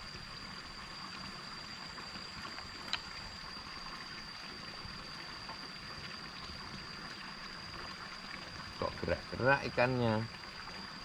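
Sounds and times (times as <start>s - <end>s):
water trickling into pond: 0.0s - 11.0s.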